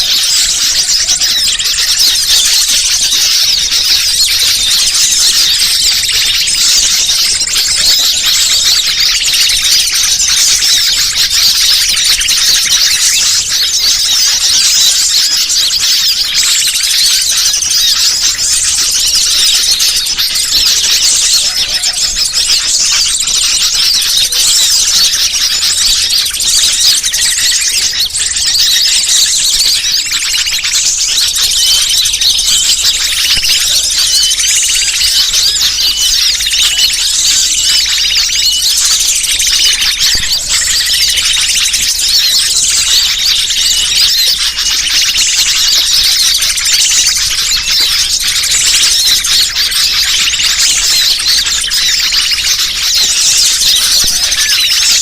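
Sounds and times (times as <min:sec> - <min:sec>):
many small birds chirping: 0:00.0 - 0:55.0.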